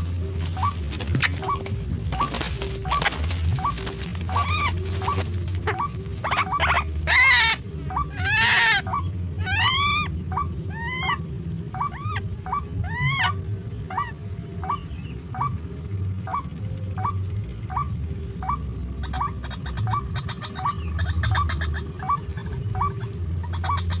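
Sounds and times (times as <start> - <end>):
waterhen calls: 0.0 - 24.0.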